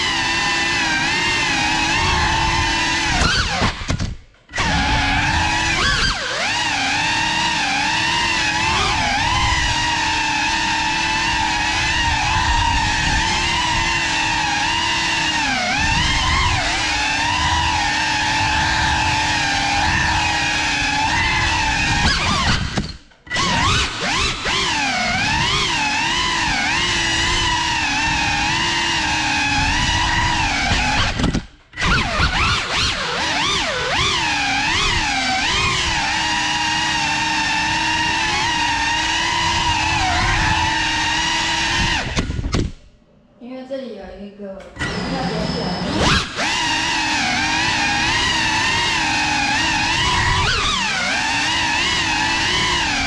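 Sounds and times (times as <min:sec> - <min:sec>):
drone propellers whining: 0:00.0 - 0:43.3, 0:44.6 - 0:53.0.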